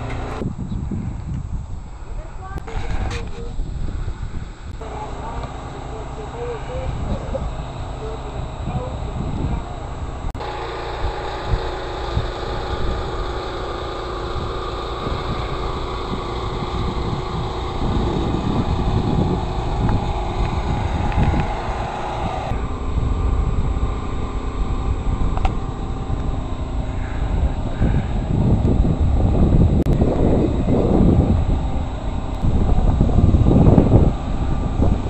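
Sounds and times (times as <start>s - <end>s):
steady engine-like hum: 0.0s - 35.0s
uneven low rumble: 0.0s - 35.0s.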